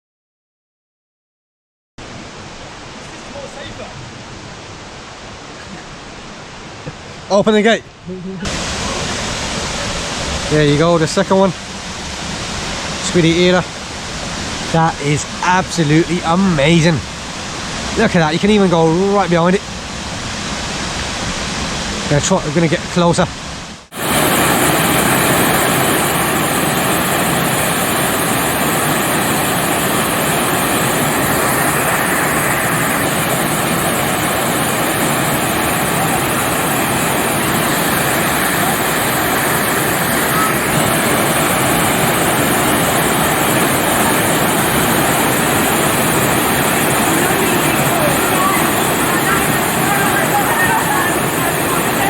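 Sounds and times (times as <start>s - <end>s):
waterfall roaring: 2.0s - 52.0s.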